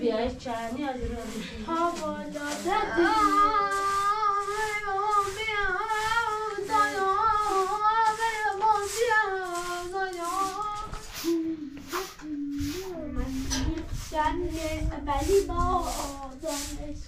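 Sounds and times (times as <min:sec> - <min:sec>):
high voice singing: 0:01.4 - 0:17.0.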